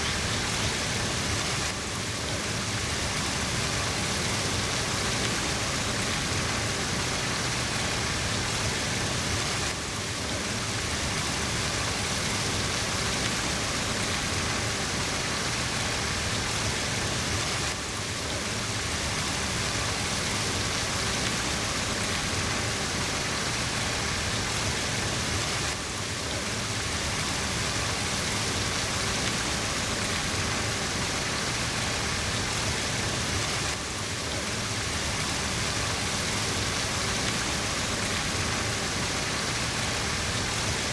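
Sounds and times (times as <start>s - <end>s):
hiss of falling water: 0.0s - 40.9s.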